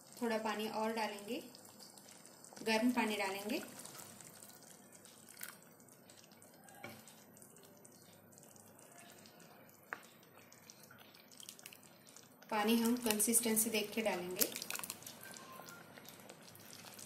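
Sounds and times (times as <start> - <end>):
water trickling into a pan: 0.0 - 17.0.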